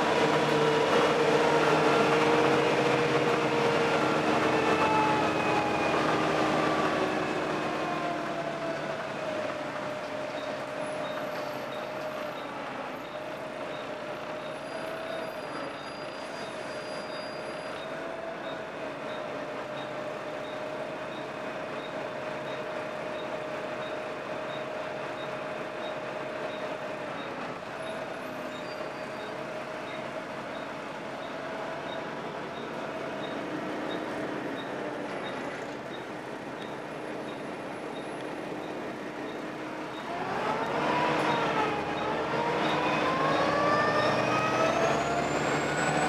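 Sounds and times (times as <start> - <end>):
bus engine whine: 0.0 - 46.0
engine and road noise: 0.0 - 46.0.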